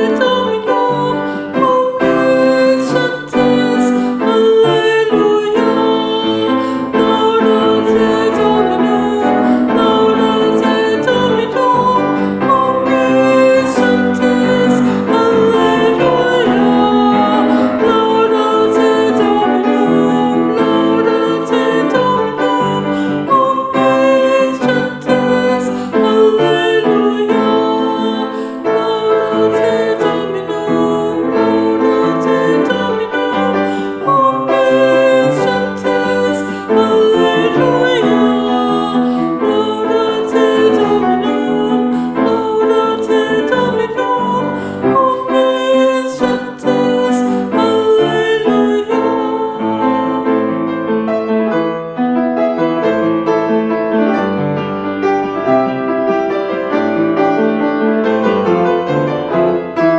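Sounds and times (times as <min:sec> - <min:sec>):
people singing a chant: 0:00.0 - 0:50.5
piano accompaniment: 0:00.0 - 0:59.9.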